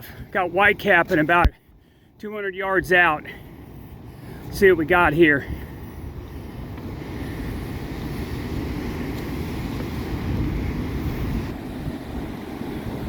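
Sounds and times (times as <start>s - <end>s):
ocean surf breaking: 0.0s - 1.7s, 2.3s - 13.0s
wind buffeting microphone: 0.0s - 13.0s.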